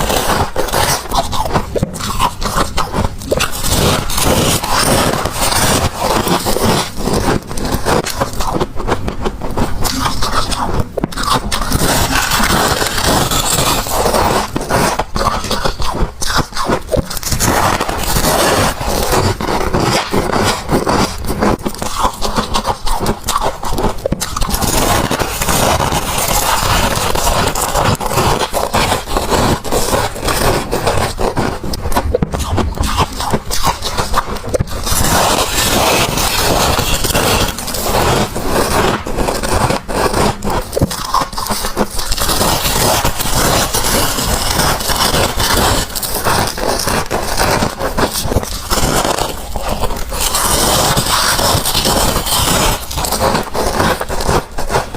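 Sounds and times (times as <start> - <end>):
frost being crunched and chewed: 0.0 - 54.9.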